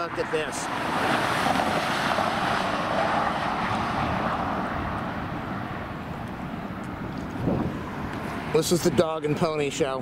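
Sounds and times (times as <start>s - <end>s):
passing vehicle rushing: 0.0s - 9.7s.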